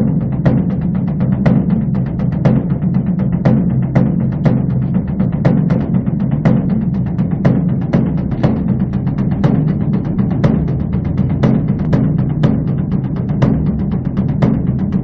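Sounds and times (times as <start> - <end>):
large drum beaten with sticks: 0.0 - 15.0.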